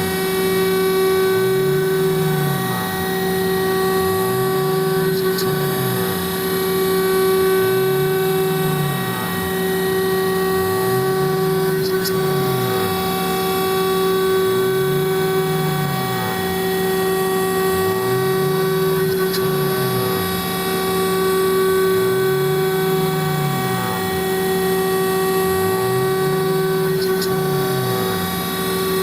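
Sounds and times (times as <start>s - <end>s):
lower motor tone: 0.0s - 29.0s
router spindle whine: 0.0s - 29.0s.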